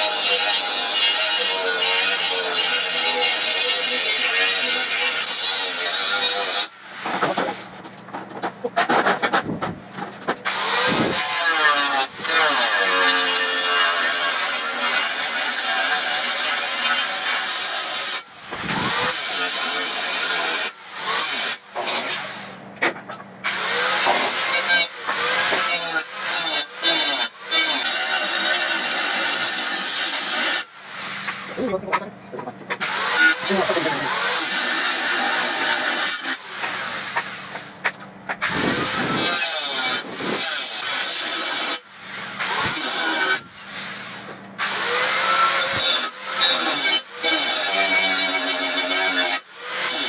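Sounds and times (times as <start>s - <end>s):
tool grinding steel: 0.0s - 7.8s, 8.5s - 32.0s, 32.7s - 50.0s.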